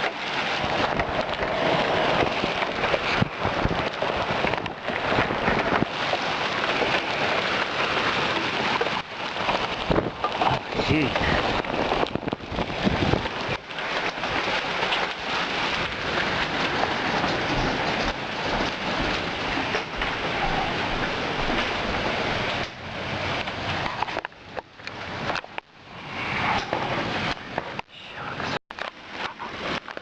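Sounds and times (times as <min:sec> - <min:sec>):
heavy rain pelting down: 0:00.0 - 0:30.0.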